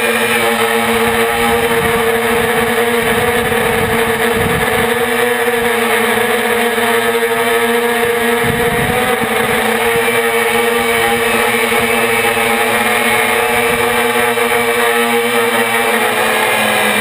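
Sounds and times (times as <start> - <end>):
multicopter propellers whining: 0.0 - 17.0.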